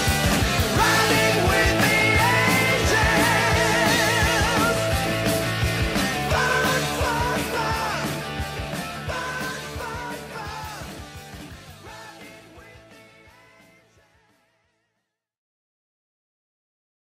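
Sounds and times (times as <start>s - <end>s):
rock music with drums: 0.0s - 14.8s.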